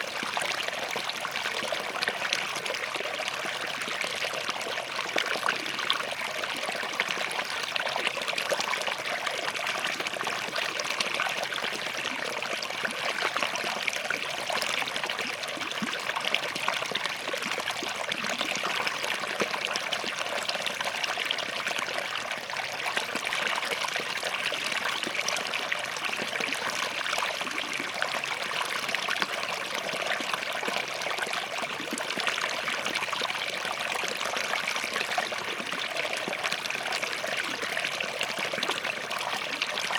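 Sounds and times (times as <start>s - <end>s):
stream trickling between rocks: 0.0s - 39.9s.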